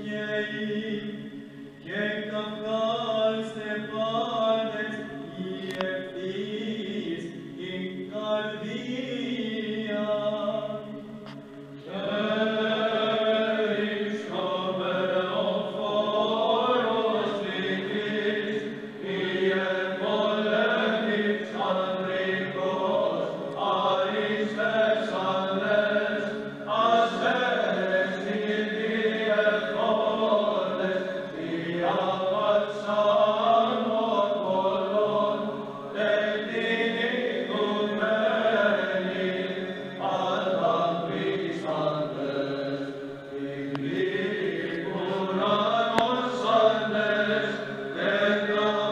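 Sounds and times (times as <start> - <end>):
male choir chanting in unison: 0.0 - 48.9.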